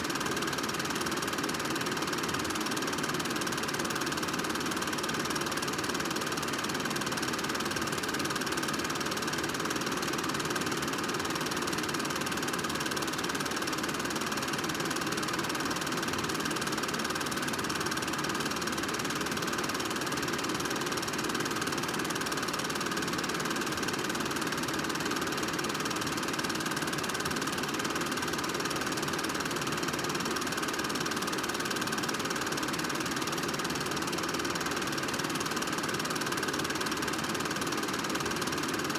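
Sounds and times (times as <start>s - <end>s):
film projector whirring and clattering: 0.0s - 38.9s.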